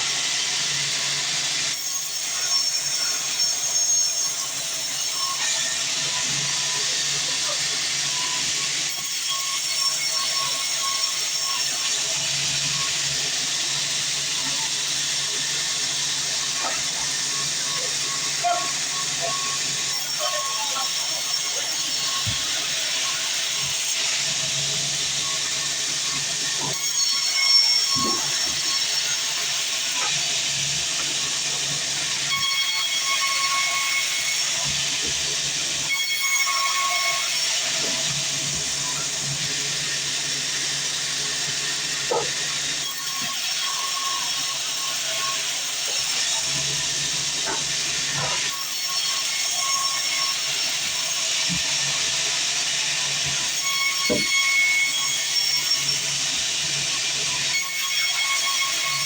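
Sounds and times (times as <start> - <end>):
band saw cutting log: 0.0 - 59.0
high saw whine: 0.0 - 59.0.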